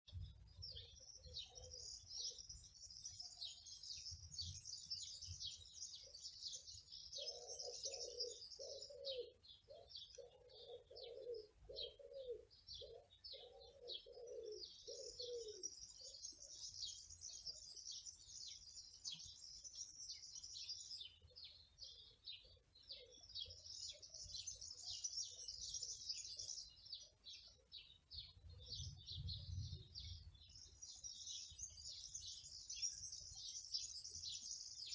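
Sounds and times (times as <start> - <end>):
songbirds chirping: 0.1 - 34.9
low cooing bird call: 0.6 - 34.9.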